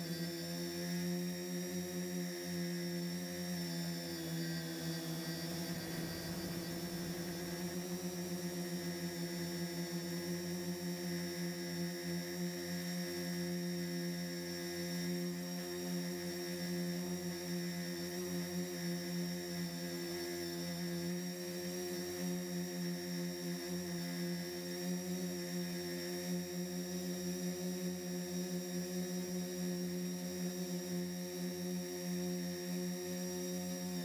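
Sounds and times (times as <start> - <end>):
quadcopter motors humming: 0.0 - 34.0.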